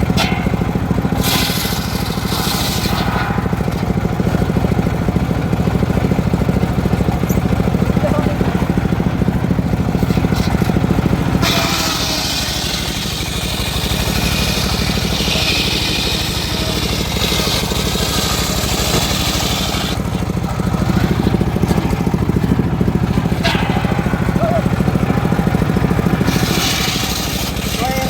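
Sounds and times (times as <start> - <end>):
saw blade cutting wood: 0.0 - 5.1, 5.7 - 28.0
sawmill engine running: 0.0 - 28.0.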